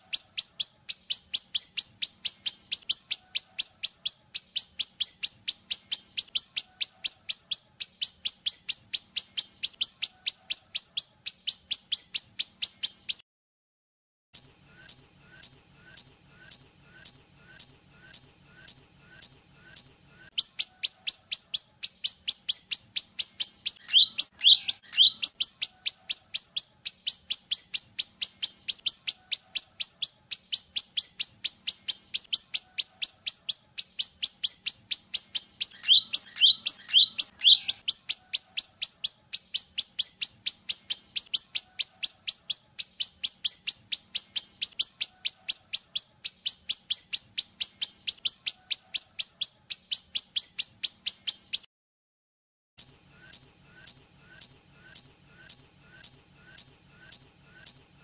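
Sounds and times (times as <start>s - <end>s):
starling calling in high notes: 0.0s - 13.2s, 14.4s - 51.7s, 52.8s - 58.0s.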